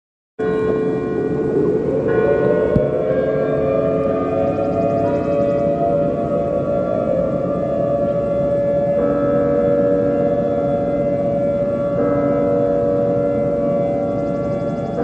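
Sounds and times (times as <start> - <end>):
electronic siren-like drone: 0.4 - 15.0.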